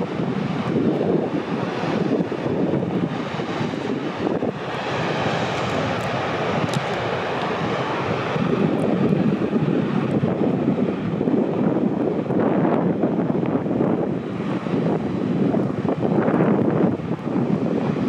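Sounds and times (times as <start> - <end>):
whitewater roar of breaking wave: 0.0 - 18.0
wind buffeting microphone: 0.0 - 18.0.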